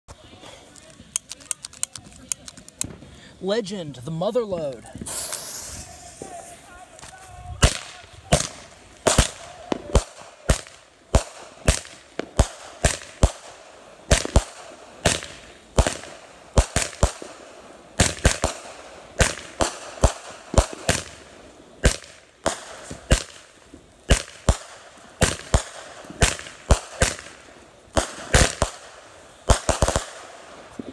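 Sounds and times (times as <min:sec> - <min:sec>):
firework bangs: 0:04.8 - 0:30.9.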